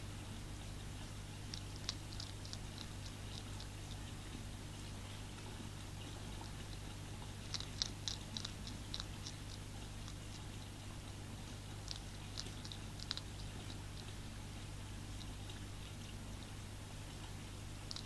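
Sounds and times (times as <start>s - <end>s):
steady low hum: 0.0s - 18.0s
hedgehog crunching dry food: 1.4s - 14.4s, 15.1s - 16.5s, 17.8s - 18.0s.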